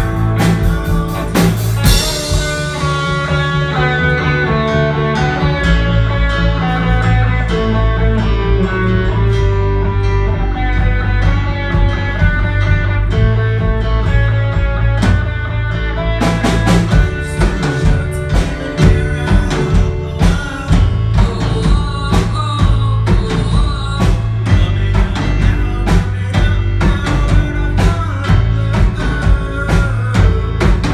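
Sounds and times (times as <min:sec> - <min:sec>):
bass guitar: 0:00.0 - 0:30.9
drum kit beat: 0:00.0 - 0:30.9
ringing guitar chords: 0:00.0 - 0:30.9.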